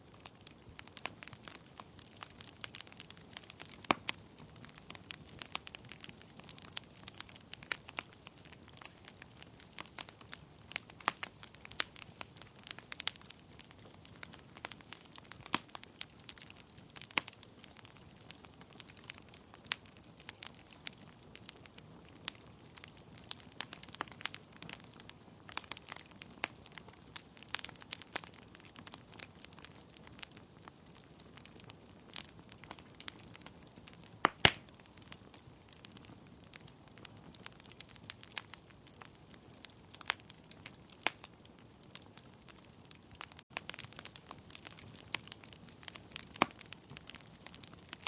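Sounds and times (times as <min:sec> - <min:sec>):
burning logs crackling: 0:00.0 - 0:48.0.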